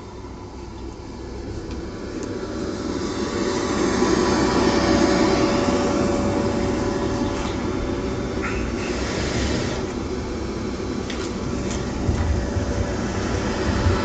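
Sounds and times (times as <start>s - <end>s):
electric blower fan whooshing: 0.0s - 14.0s.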